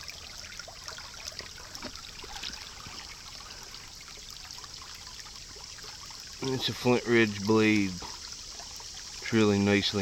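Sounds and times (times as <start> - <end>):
creek water trickling over rock: 0.0 - 10.0.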